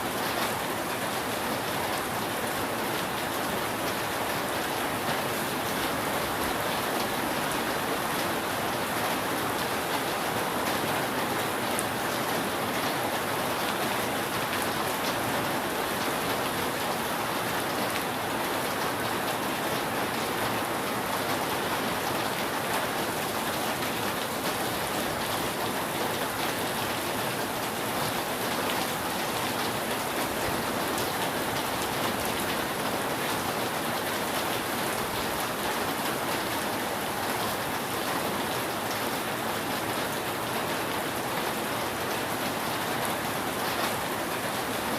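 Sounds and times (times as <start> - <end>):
rain falling on a roof: 0.0 - 44.9.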